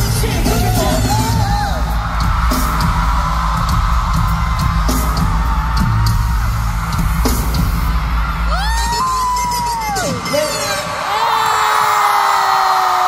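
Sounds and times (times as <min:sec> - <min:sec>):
crowd yelling and screaming: 0:00.0 - 0:13.0
live pop music through speakers: 0:00.0 - 0:13.0.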